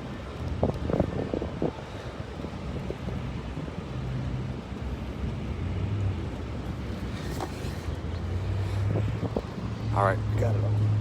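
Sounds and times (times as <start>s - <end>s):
vehicle engine rumbling: 0.0s - 11.0s
wind noise on microphone: 0.0s - 11.0s.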